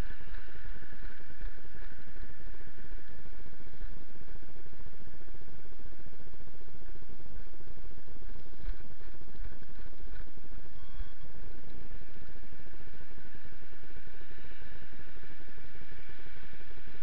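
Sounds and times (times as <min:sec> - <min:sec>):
constant high hiss: 0:00.0 - 0:17.0.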